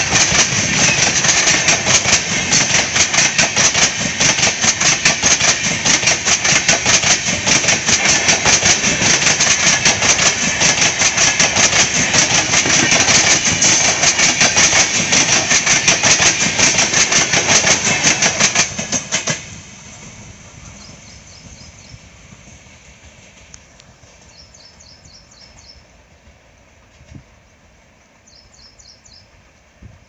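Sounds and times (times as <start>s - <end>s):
train wheels clattering over joints: 0.0s - 24.4s.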